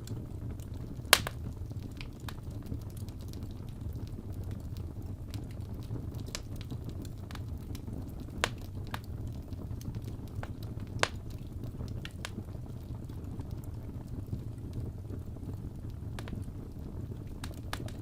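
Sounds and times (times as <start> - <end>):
fire crackling and popping: 0.0 - 18.0
wood fire rumbling: 0.0 - 18.0.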